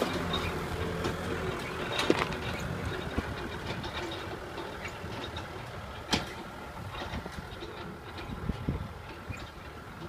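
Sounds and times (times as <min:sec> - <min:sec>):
clanks and rattles: 0:00.0 - 0:10.0
tractor diesel engine running: 0:00.0 - 0:10.0.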